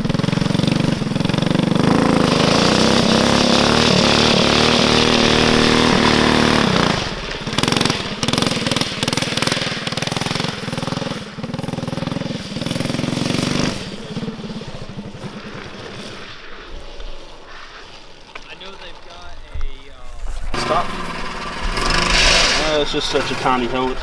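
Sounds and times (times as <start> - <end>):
small engine revving: 0.0 - 24.0.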